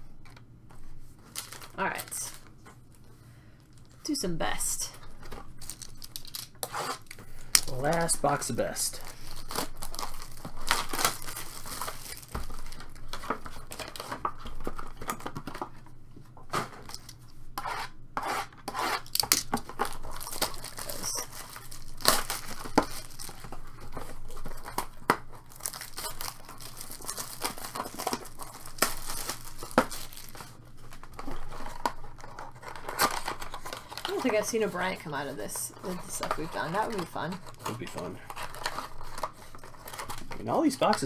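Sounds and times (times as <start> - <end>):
plastic shrink wrap tearing: 1.2 - 2.5, 5.5 - 15.6, 19.0 - 41.0.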